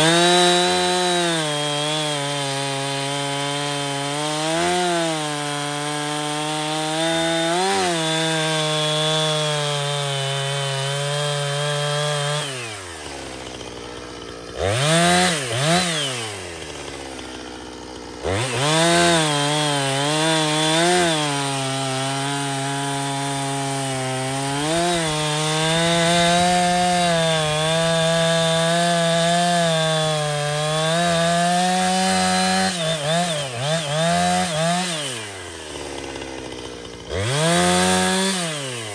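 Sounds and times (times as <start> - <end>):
chainsaw cutting wood: 0.0 - 38.9
chainsaw revving: 0.0 - 38.9.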